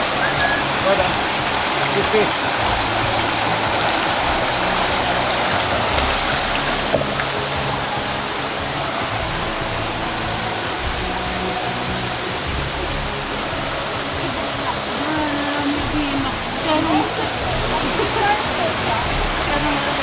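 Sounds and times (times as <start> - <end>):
low music tones: 0.0 - 20.0
stream rushing over rocks: 0.0 - 20.0.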